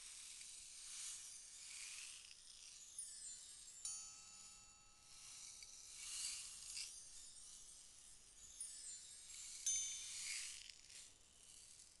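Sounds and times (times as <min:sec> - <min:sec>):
soft hiss: 0:00.0 - 0:12.0
tinkling chime-like tones: 0:00.0 - 0:12.0.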